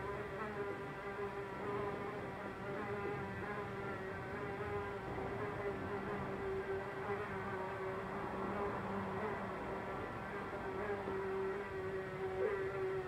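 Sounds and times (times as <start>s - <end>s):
housefly buzzing in flight: 0.0s - 13.0s.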